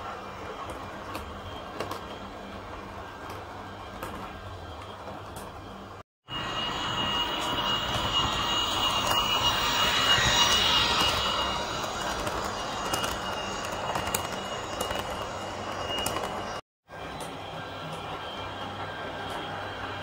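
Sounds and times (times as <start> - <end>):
model train running with whine: 0.0 - 20.0.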